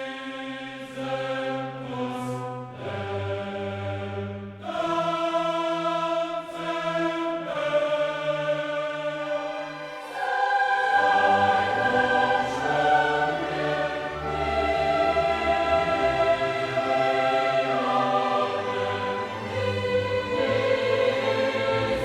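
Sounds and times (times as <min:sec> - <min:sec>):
choir singing slow held chords: 0:00.0 - 0:22.0.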